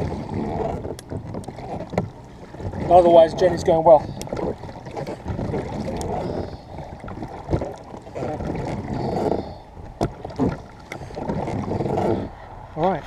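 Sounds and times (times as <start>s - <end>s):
oars working the water: 0.0s - 13.0s.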